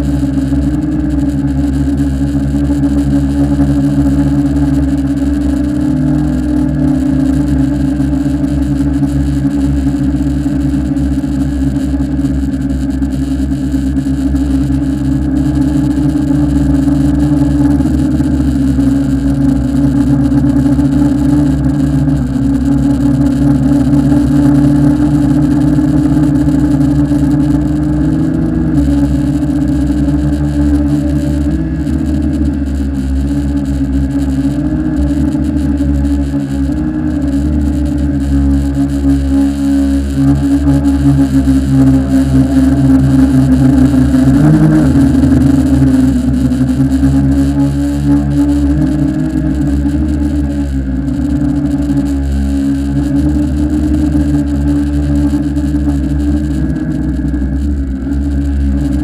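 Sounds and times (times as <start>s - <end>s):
drone propellers whirring: 0.0s - 59.0s.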